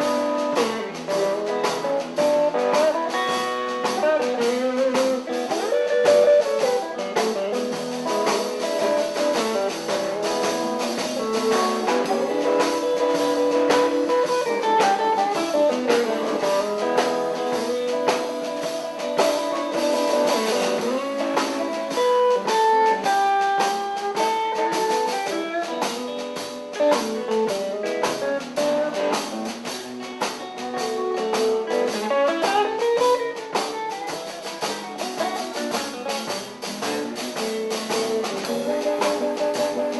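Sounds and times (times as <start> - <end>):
drum kit keeping time: 0.0 - 39.9
electric guitar blues lines: 0.0 - 39.9.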